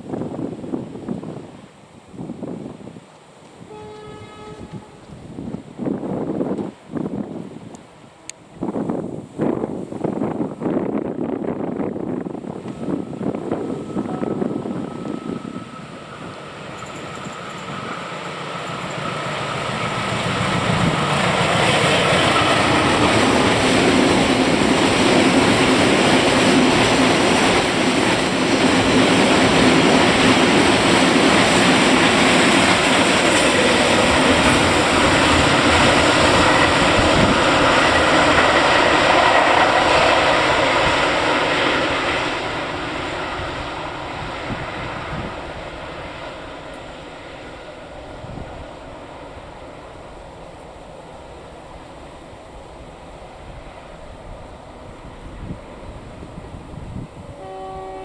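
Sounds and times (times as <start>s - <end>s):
train passing close by: 0.0s - 58.0s.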